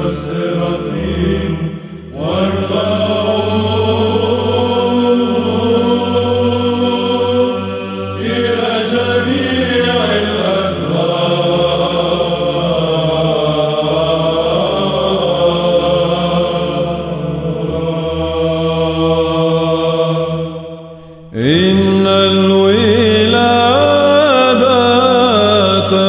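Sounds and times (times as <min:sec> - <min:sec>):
held drone: 0:00.0 - 0:24.0
men chanting: 0:00.0 - 0:26.0.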